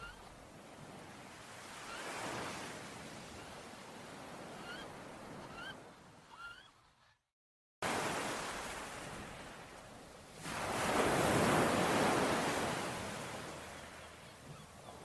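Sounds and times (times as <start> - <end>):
sea waves surging on shore: 0.0 - 5.4, 7.8 - 15.0.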